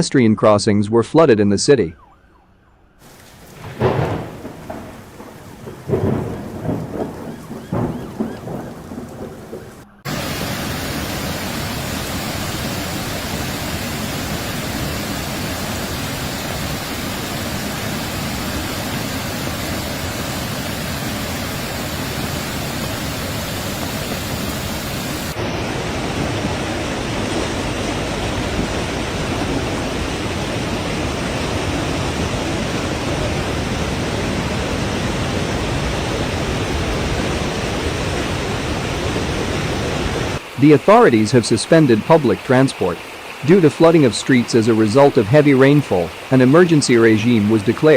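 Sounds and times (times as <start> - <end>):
gusting noise: 3.0 - 42.4
heavy rain: 3.0 - 47.9
rushing water: 3.0 - 47.9.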